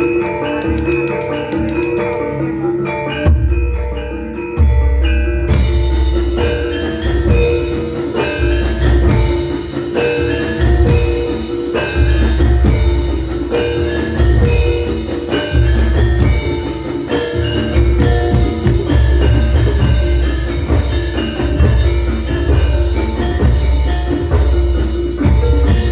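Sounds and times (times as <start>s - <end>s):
metallophones striking quick notes: 0.0s - 25.9s
drum and gong booms: 4.6s - 25.9s.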